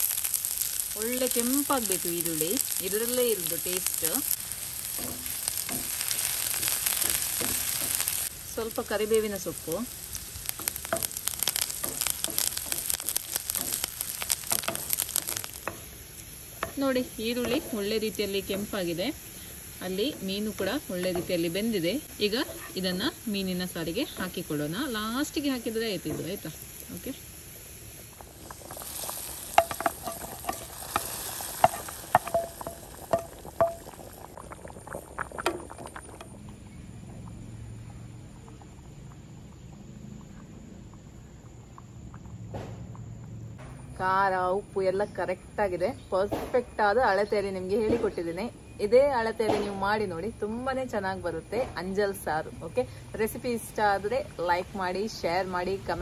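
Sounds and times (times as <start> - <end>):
leaves and onions sizzling in oil: 0.0 - 38.9, 43.8 - 56.0.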